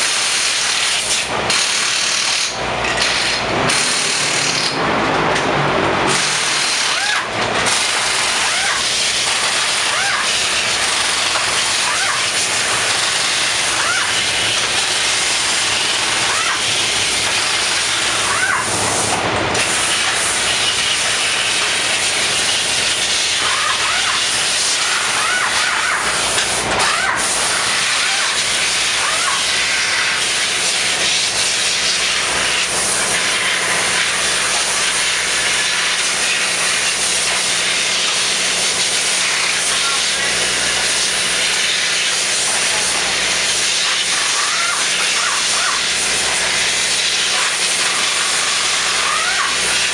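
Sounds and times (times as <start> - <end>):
loud hissing noise: 0.0 - 49.9.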